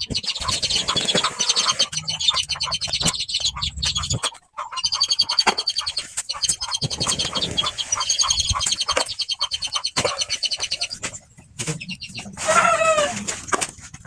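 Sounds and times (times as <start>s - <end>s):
birds chirping in trills: 0.0s - 13.1s.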